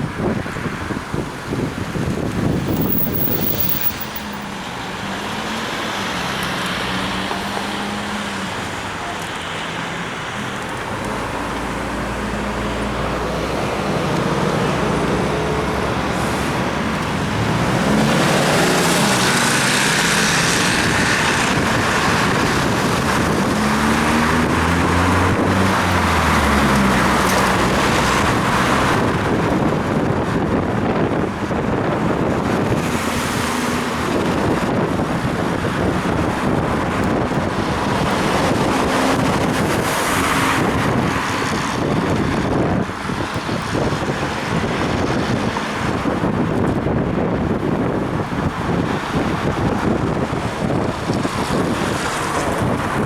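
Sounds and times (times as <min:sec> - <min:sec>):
vehicles passing on wet road: 0:00.0 - 0:53.0.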